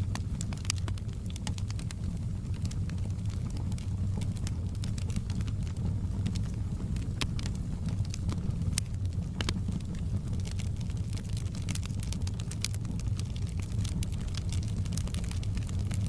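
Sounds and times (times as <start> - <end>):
roar of flames: 0.0 - 16.0
wood crackling and popping: 0.0 - 16.0.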